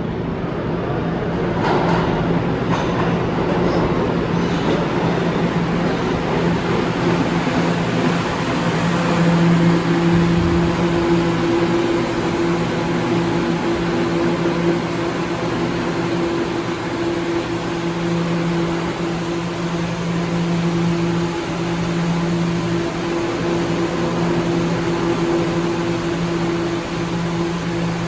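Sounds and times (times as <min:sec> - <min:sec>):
continuous rushing noise: 0:00.0 - 0:28.0
subway train electrical hum: 0:00.0 - 0:28.0.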